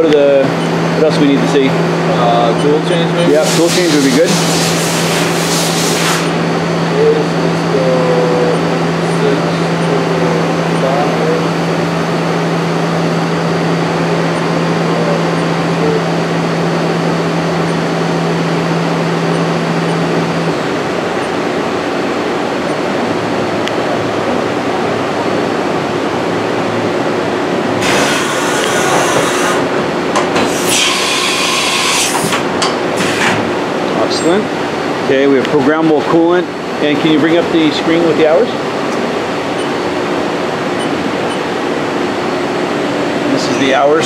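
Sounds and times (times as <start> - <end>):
machining center running: 0.0 - 44.0.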